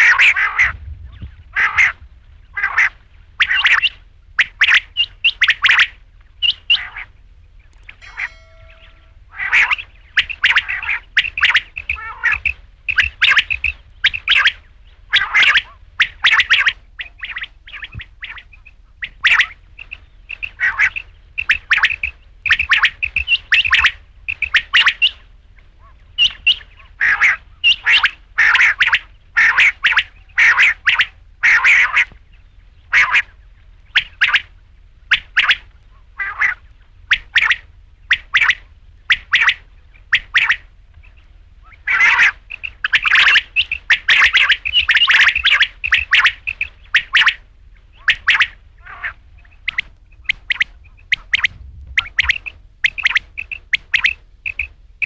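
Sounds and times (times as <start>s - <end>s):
quail calling: 0.0s - 55.0s
steady low hum: 0.0s - 55.0s.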